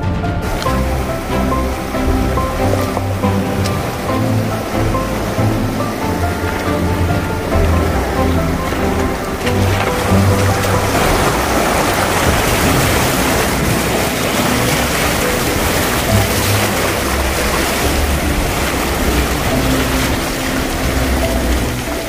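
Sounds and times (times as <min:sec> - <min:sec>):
faint background music: 0:00.0 - 0:22.0
loud rushing noise: 0:00.0 - 0:22.0.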